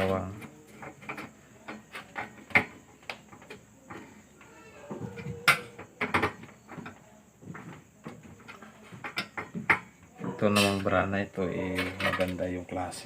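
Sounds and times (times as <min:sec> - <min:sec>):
clicks and knocks of stove parts: 0:00.0 - 0:11.0, 0:11.7 - 0:12.4.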